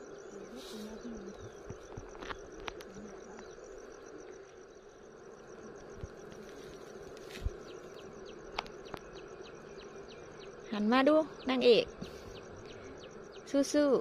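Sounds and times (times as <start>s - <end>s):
insects chirping in a trill: 0.0s - 14.0s.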